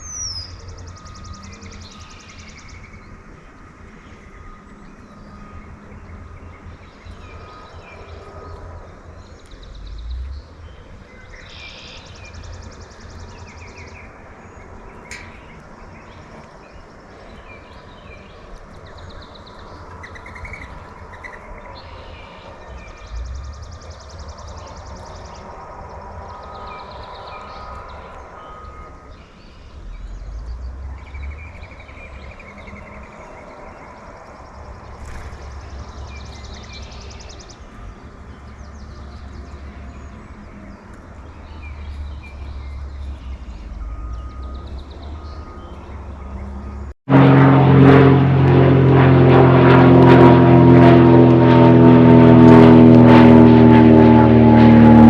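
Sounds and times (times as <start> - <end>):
small birds chirping: 0.0 - 46.9
road traffic rumble: 0.0 - 55.0.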